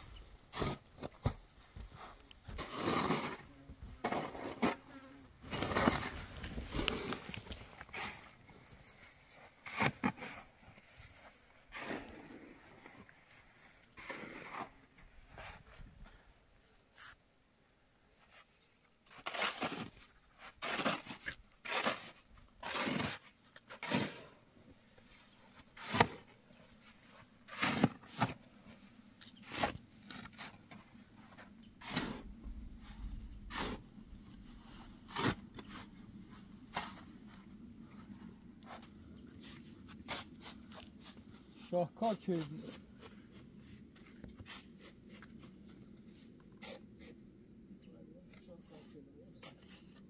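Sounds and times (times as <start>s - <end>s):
shovel scraping into sand: 0.5s - 1.4s, 2.0s - 15.8s, 19.1s - 24.4s, 25.0s - 37.4s, 38.7s - 45.6s, 48.3s - 50.0s.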